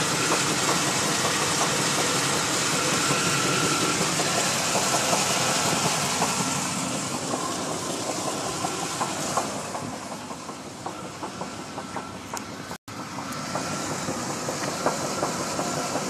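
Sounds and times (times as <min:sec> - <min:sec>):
engine running with knock: 0:00.0 - 0:16.0.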